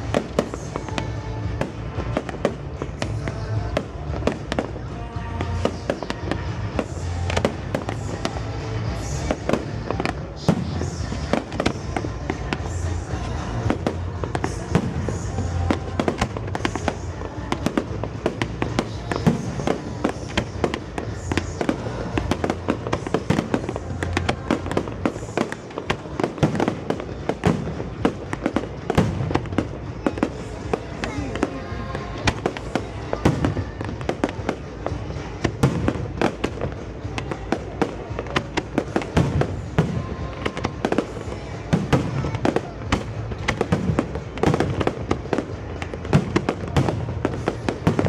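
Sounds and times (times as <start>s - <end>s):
fireworks cracking and banging: 0.0s - 48.0s
music over loudspeakers: 0.0s - 48.0s.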